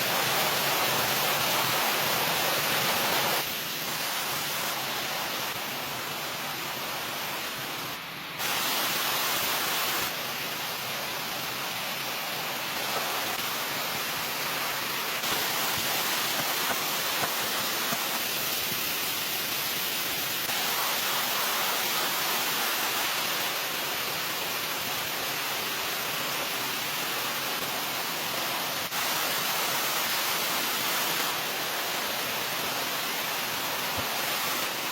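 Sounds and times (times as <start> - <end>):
steady rushing noise: 0.0 - 34.9.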